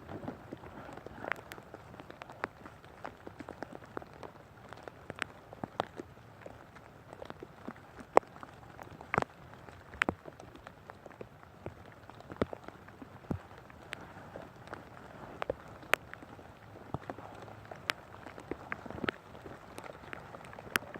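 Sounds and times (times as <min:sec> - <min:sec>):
rain pattering: 0:00.0 - 0:20.9.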